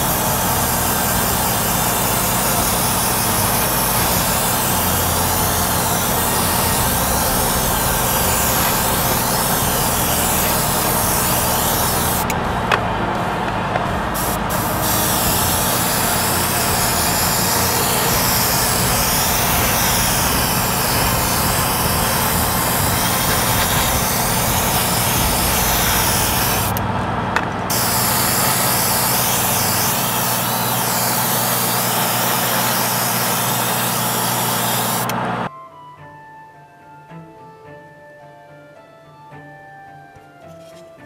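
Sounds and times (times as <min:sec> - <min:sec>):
airbrush hissing: 0:00.0 - 0:12.7, 0:13.4 - 0:26.8, 0:27.7 - 0:35.2
exhaust fan humming: 0:00.0 - 0:35.5.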